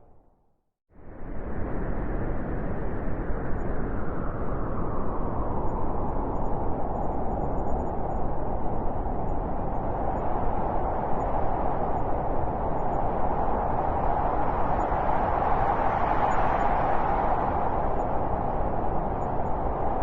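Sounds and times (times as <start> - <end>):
strong blizzard wind: 1.0 - 20.0.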